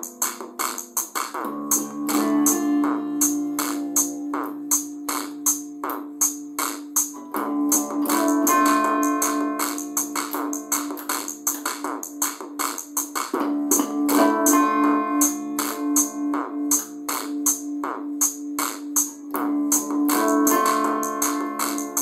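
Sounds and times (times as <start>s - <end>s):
instrumental music with steady beat: 0.0s - 22.0s.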